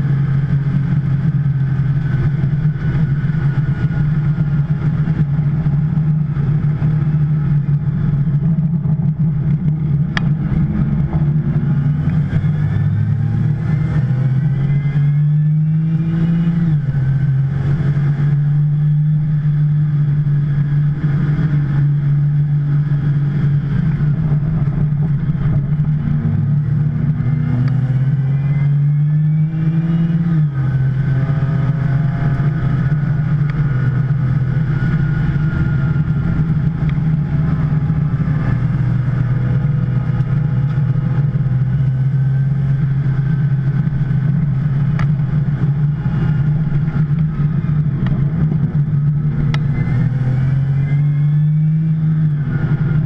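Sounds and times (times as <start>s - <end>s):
sports car engine at full throttle: 0.0s - 53.0s.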